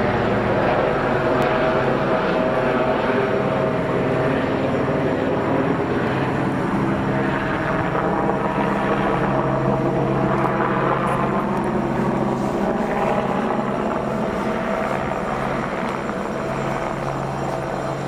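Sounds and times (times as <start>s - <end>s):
helicopter droning overhead: 0.0s - 18.0s.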